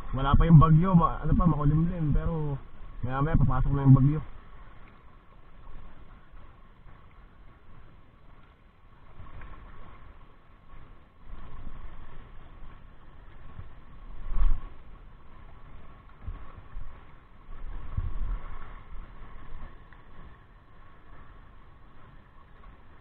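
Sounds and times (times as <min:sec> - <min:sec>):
faint steady hum: 0:00.0 - 0:23.0
wind buffeting microphone: 0:00.0 - 0:23.0.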